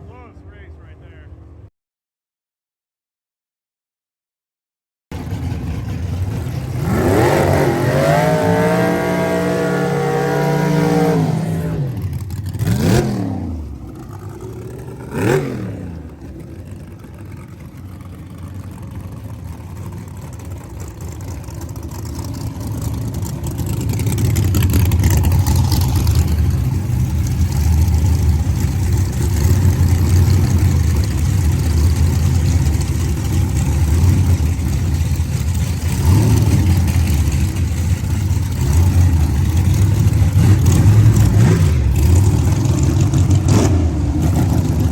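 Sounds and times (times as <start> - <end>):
race car engine revving: 5.2 - 44.9.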